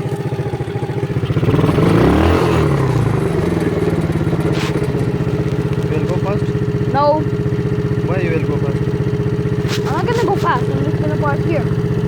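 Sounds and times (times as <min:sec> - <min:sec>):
quad bike engine idling and revving: 0:00.0 - 0:12.0.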